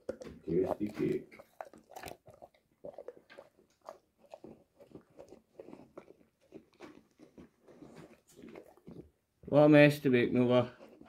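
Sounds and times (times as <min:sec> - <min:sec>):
dog chewing and crunching cake: 0:00.0 - 0:11.0.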